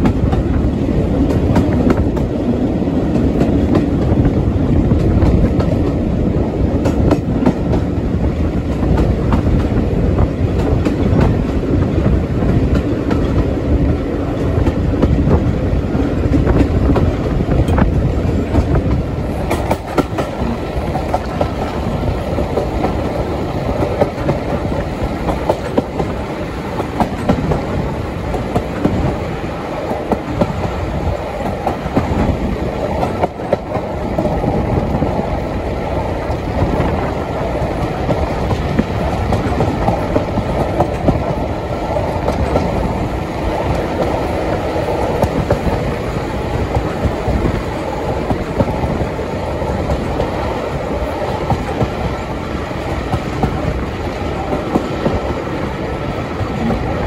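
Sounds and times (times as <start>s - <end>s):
train wheels rumbling on rail: 0.0s - 57.0s
wheels clicking over rail joints: 8.6s - 55.6s.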